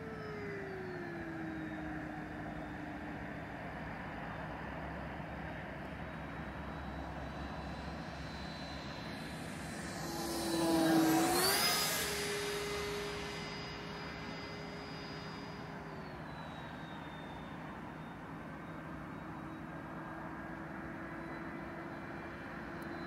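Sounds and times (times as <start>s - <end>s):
electric jet fan whine: 0.0s - 23.0s.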